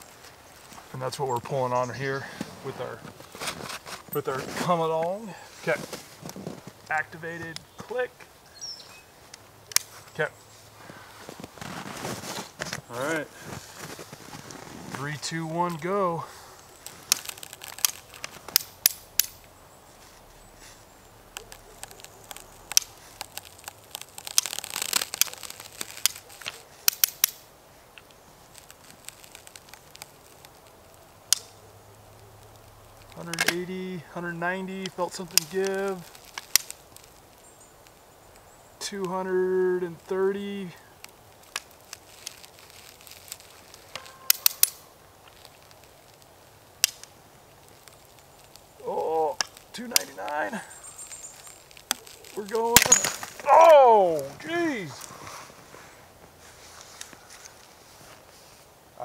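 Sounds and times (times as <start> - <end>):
crunching: 0.0 - 8.1, 8.8 - 39.2, 39.8 - 58.7.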